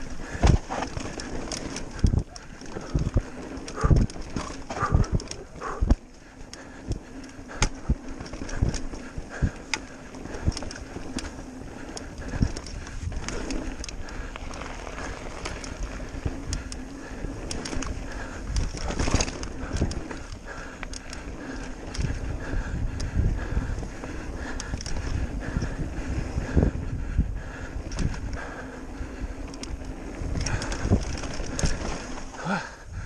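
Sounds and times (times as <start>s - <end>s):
bike knocks and rattles: 0.0s - 26.7s, 27.6s - 32.6s
bike tyres on dirt: 0.0s - 33.0s.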